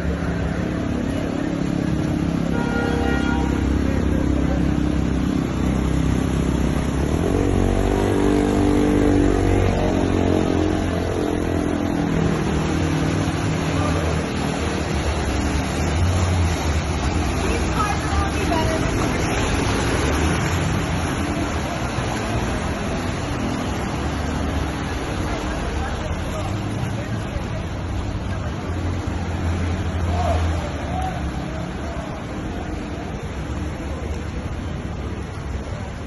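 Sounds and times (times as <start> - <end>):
car engines running: 0.0 - 36.0
water rushing and rain: 0.0 - 36.0.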